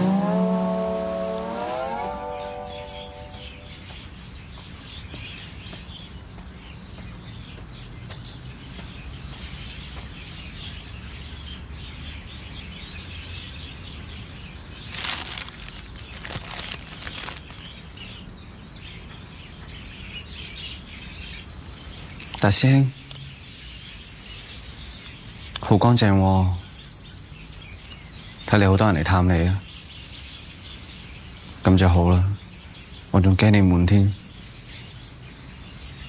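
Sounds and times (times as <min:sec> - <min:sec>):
birds chirping: 0:00.0 - 0:36.0
steady background noise: 0:00.0 - 0:36.0.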